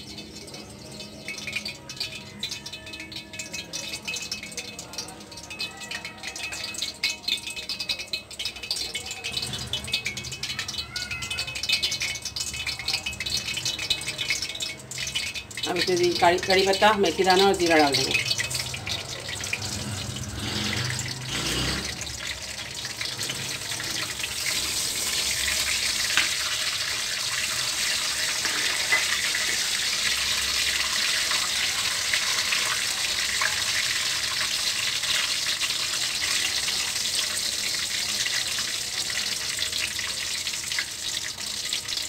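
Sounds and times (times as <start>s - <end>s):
seeds sizzling in hot oil: 0.0s - 42.0s.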